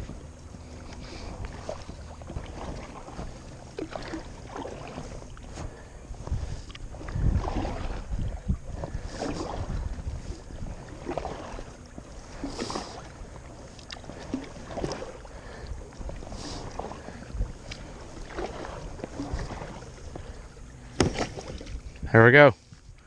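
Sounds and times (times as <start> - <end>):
paddle splashing in water: 0.0 - 22.0
wind rumble on microphone: 0.0 - 23.0.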